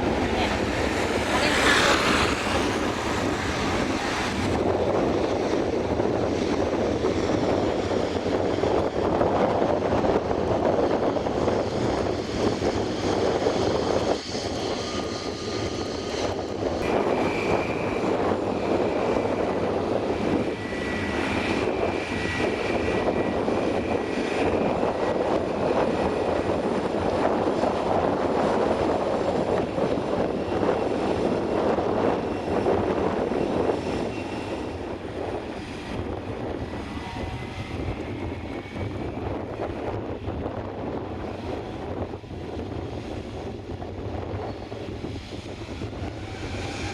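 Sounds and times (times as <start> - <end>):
airliner engines rushing: 0.0 - 46.9.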